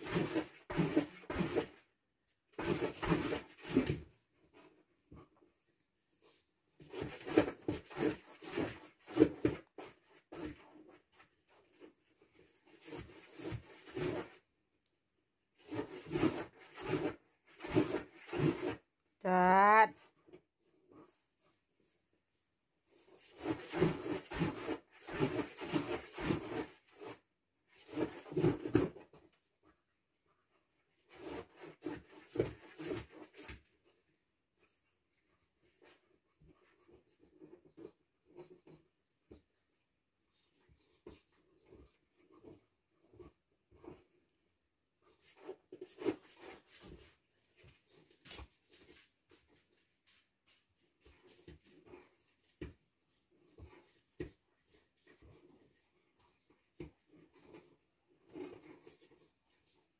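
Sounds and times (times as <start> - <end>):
scratchy rubbing and rustling: 0.0 - 14.5, 15.5 - 59.9.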